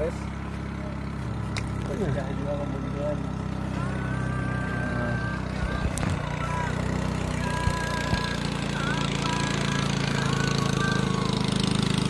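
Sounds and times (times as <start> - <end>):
small engine chugging: 0.0 - 12.0.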